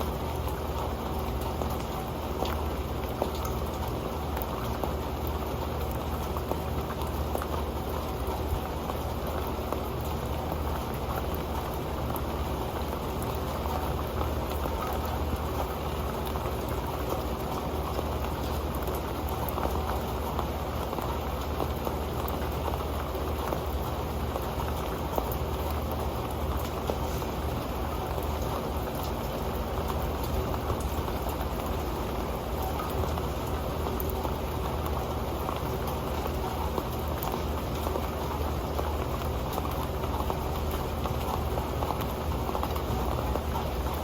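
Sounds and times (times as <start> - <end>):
rain pattering on metal pan: 0.0 - 44.0.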